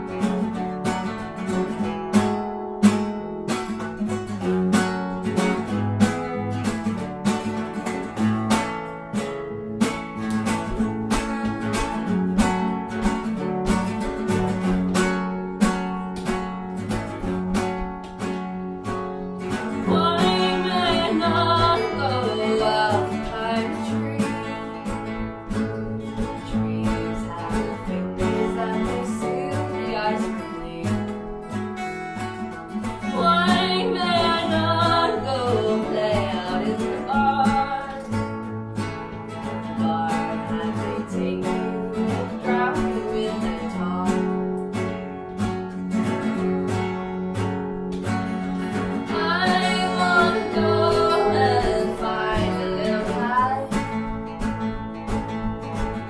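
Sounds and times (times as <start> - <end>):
acoustic guitar strummed and picked: 0.0 - 56.0.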